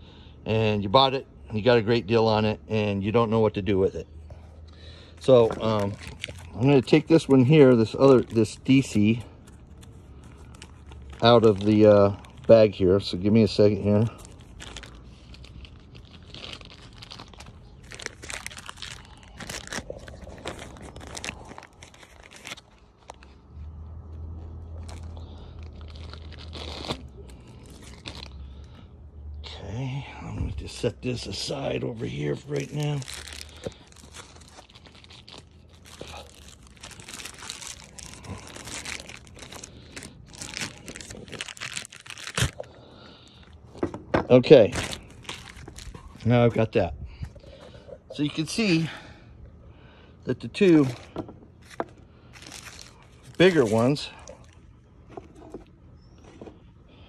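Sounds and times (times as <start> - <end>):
rustling handling noise: 4.6 - 28.3, 30.6 - 48.8, 50.5 - 56.9
plastic bag crinkling: 4.6 - 28.8, 31.2 - 43.6, 44.3 - 47.6, 50.4 - 56.6.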